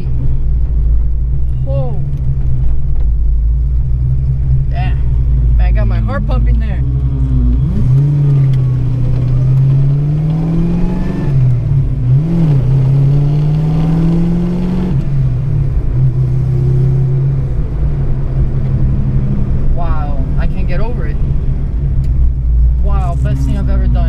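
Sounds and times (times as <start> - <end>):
car engine revving through gears: 3.8 - 24.0.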